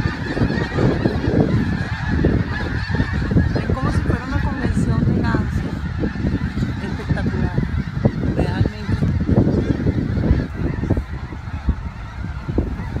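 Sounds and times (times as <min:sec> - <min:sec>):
geese honking: 0:00.0 - 0:13.0
wind rumble on microphone: 0:00.0 - 0:13.0.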